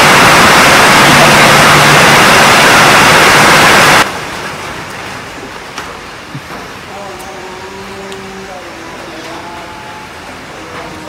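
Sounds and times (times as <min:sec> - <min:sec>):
loud static hiss: 0:00.0 - 0:11.0.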